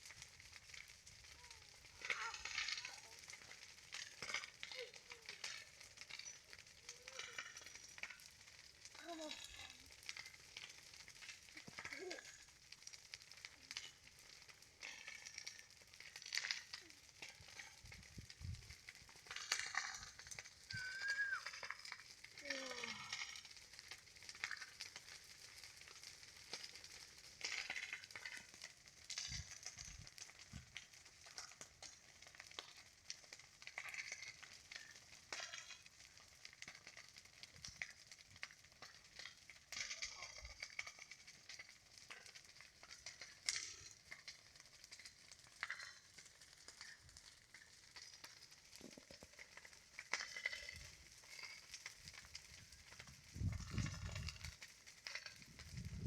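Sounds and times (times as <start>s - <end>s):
campfire crackling and popping: 0.0s - 56.0s
soft fire hiss: 0.0s - 56.0s.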